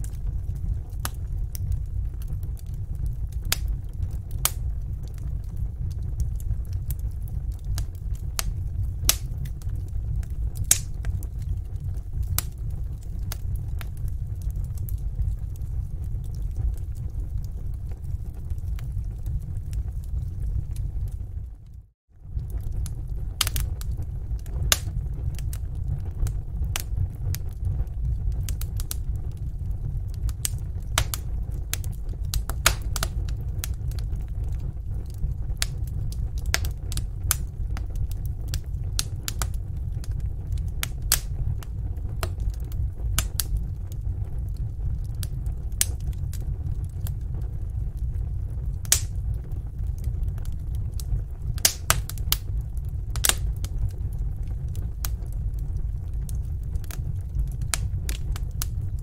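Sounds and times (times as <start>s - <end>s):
fire low rumble: 0.0s - 59.0s
wood fire crackling and popping: 0.0s - 59.0s.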